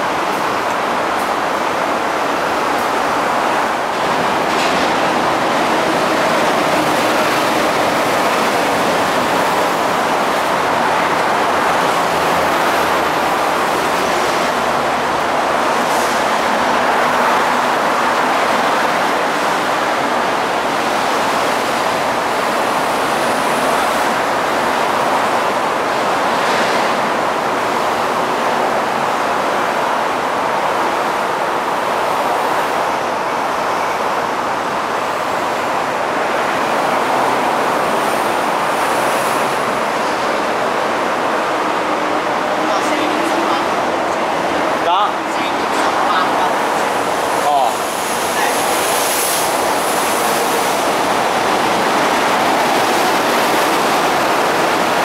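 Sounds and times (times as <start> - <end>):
steady rushing background noise: 0.0 - 55.0.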